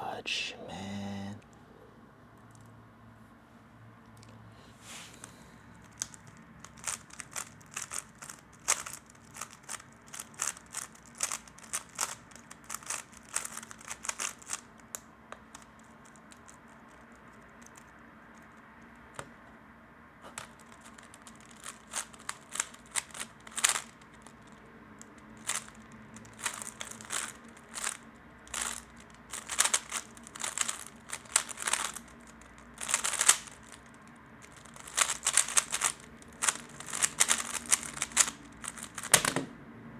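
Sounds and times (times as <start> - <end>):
puzzle cube clicking while turned: 5.8 - 19.6, 20.2 - 39.5.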